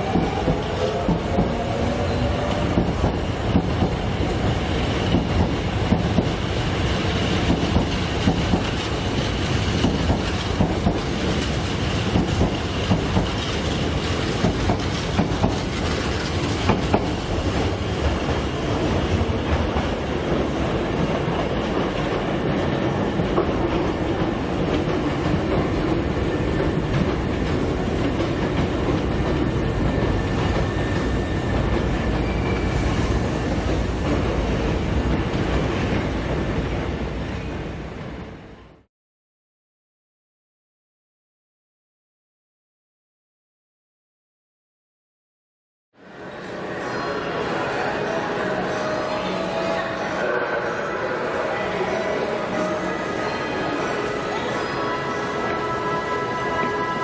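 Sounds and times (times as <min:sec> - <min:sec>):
electric train rumbling: 0:00.0 - 0:38.9, 0:46.0 - 0:57.0.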